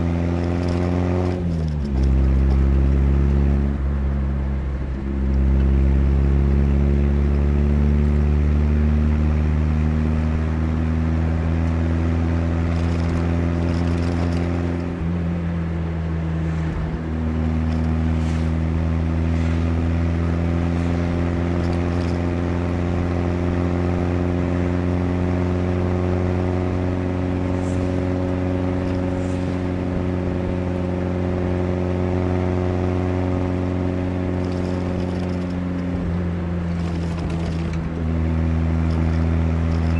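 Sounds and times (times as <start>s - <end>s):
car engine running while driving: 0.0s - 39.9s.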